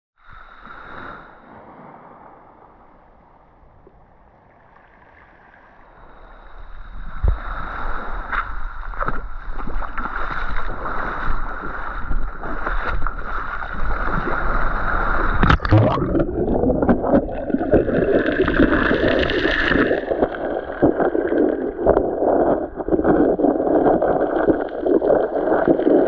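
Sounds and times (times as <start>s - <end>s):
sea water sloshing and gurgling: 0.3s - 26.0s.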